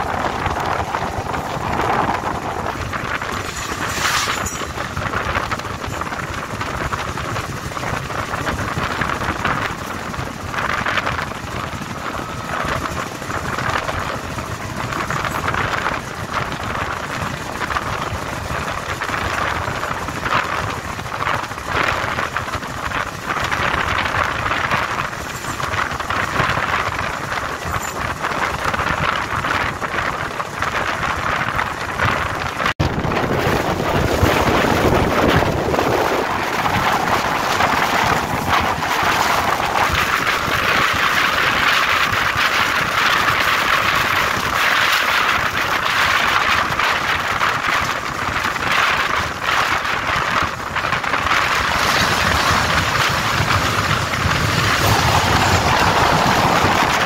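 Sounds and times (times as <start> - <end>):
train wheels rumbling on rails: 0.0 - 57.0
wind noise on microphone: 0.0 - 57.0.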